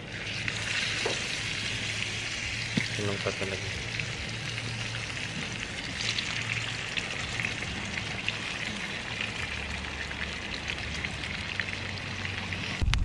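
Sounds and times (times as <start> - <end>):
pork frying in hot oil: 0.0 - 13.0.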